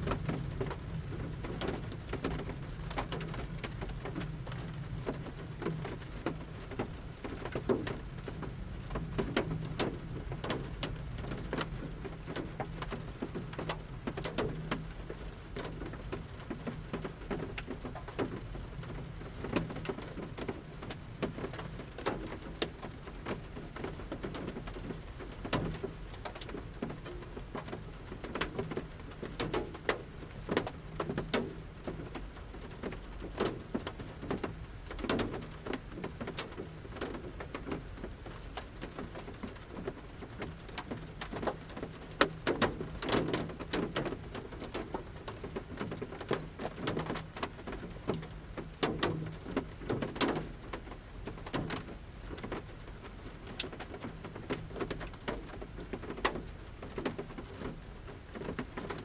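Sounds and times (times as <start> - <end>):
raindrops tapping on van roof: 0.0 - 59.0.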